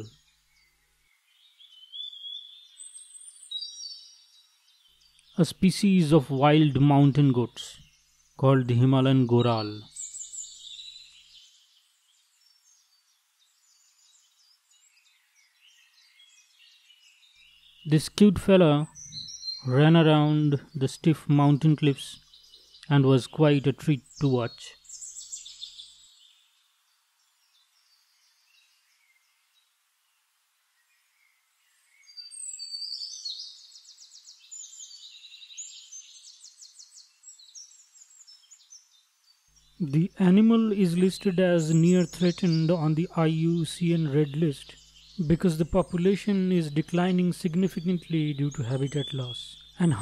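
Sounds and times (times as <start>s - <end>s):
faint high bird chirps: 0.0s - 50.0s.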